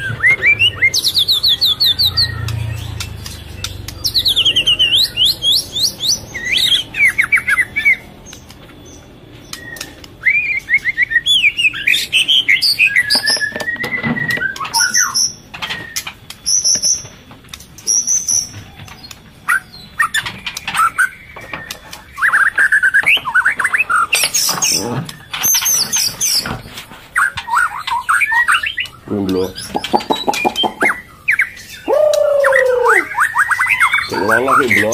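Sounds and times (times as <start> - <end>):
high bird chirps: 0.0 - 17.2, 17.8 - 34.9
songbirds whistling: 0.0 - 34.9.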